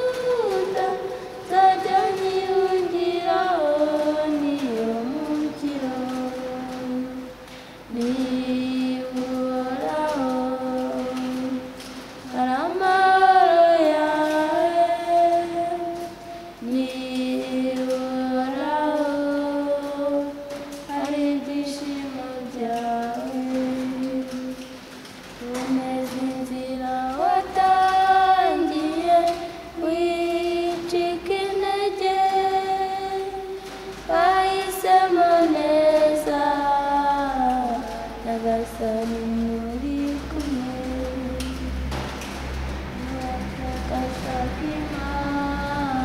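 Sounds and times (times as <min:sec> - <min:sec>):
youths singing in harmony: 0:00.0 - 0:42.3, 0:43.0 - 0:46.0.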